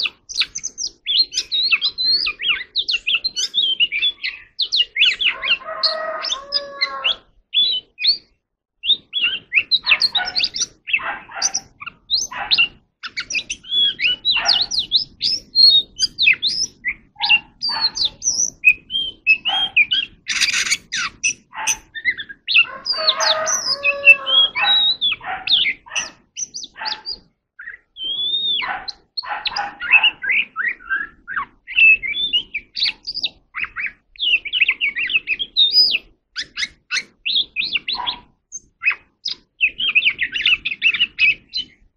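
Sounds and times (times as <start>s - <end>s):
bird singing whistles and chirps: 0.0s - 41.9s.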